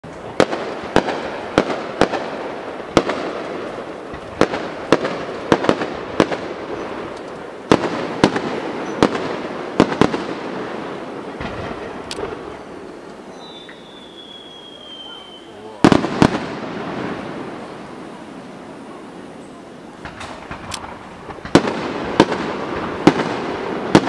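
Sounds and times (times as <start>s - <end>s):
firework shells bursting: 0.1s - 18.8s, 19.9s - 24.0s.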